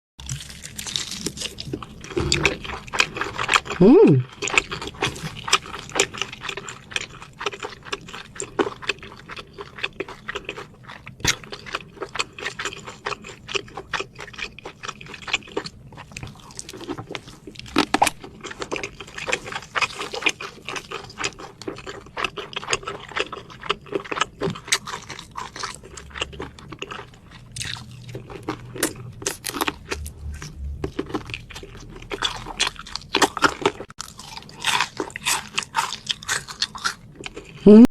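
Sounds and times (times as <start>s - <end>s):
person chewing and crunching: 0.2s - 37.8s.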